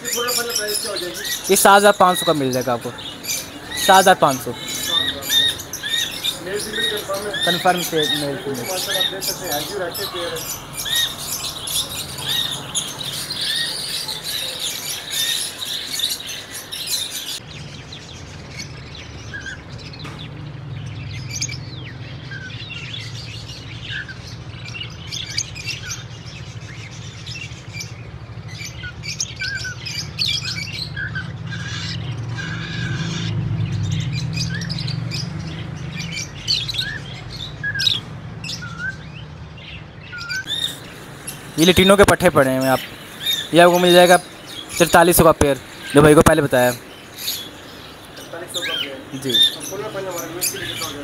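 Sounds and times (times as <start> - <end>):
lovebirds chirping and chattering: 0.0 - 51.0.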